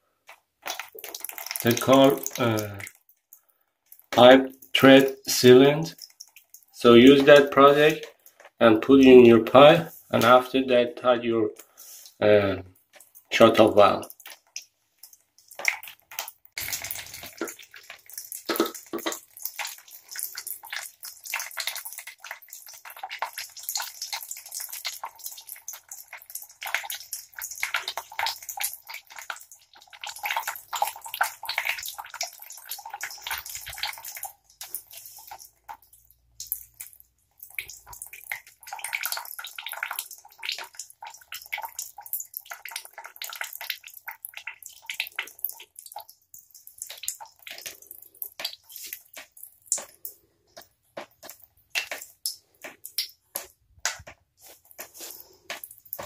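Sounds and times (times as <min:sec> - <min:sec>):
water trickling and dripping: 0:00.0 - 0:56.0.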